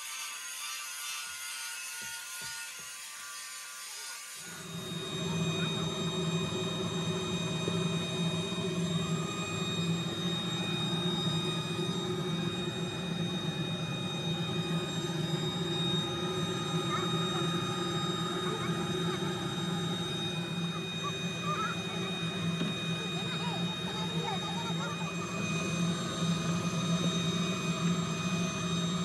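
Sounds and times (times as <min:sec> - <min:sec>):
workshop machinery humming and whining: 0:00.0 - 0:29.0.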